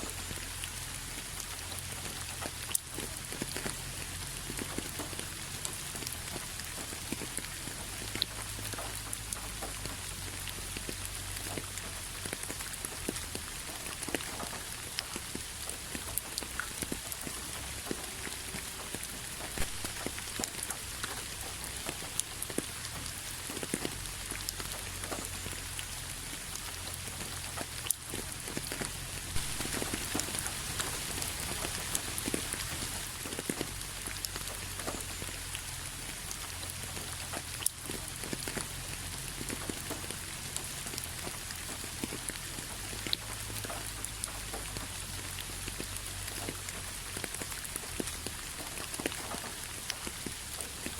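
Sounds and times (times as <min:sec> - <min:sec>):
rain hissing: 0:00.0 - 0:50.9
raindrops ticking: 0:00.0 - 0:50.9.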